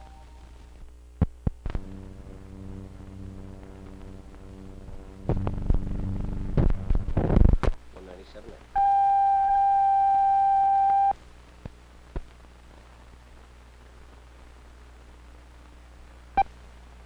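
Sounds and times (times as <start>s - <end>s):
film projector hum: 0.0s - 15.8s
film crackling and pops: 0.0s - 17.0s.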